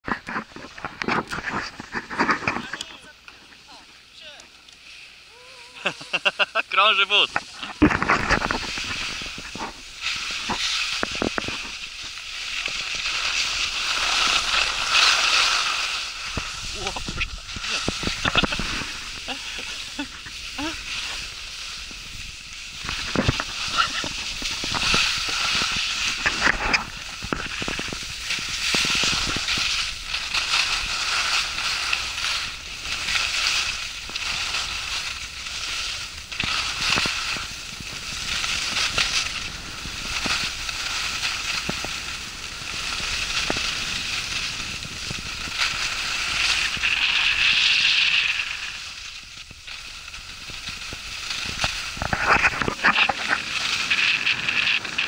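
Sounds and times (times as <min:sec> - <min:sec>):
skis scraping over snow: 0:00.1 - 0:55.0.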